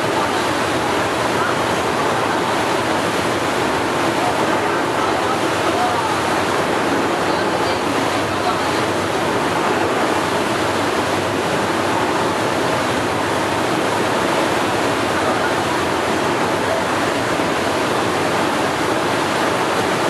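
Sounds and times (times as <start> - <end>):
hydrofoil waterjet spray rushing: 0.0 - 20.0.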